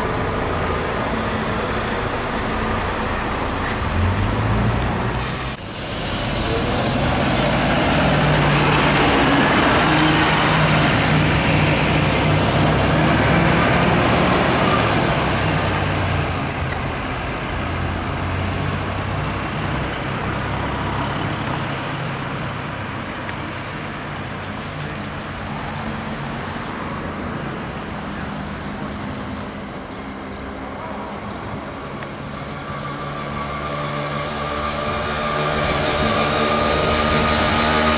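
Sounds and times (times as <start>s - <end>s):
bus diesel engine pulling away: 0.0s - 37.9s
general traffic noise: 0.0s - 37.9s.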